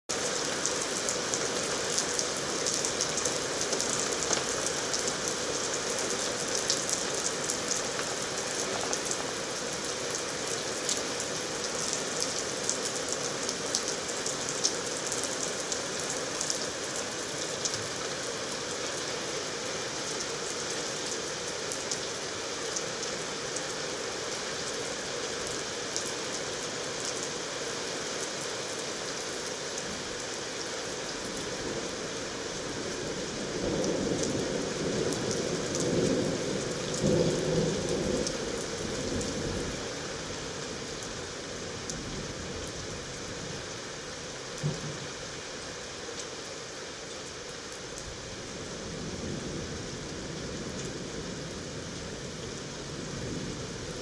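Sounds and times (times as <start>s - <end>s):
heavy rain on tiled roof: 0.1s - 54.0s.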